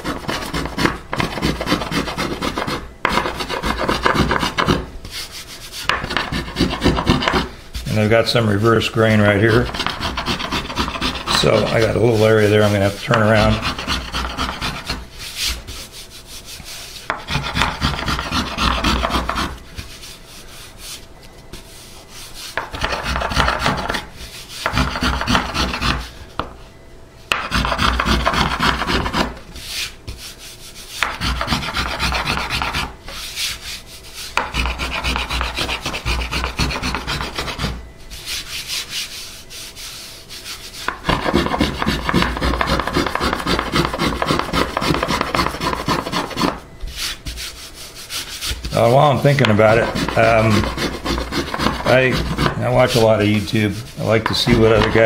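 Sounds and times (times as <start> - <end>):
plane scraping wood: 0.0 - 21.0, 21.6 - 26.2, 27.3 - 55.0.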